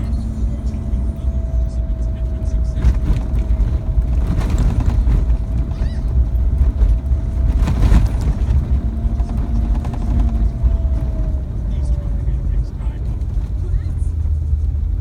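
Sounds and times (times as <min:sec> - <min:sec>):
gravel knocks and rattles: 0:00.0 - 0:15.0
road and engine rumble: 0:00.0 - 0:15.0.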